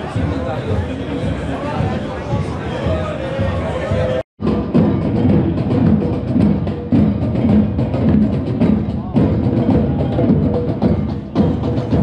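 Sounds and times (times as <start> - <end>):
music with drum beat: 0.0 - 12.0.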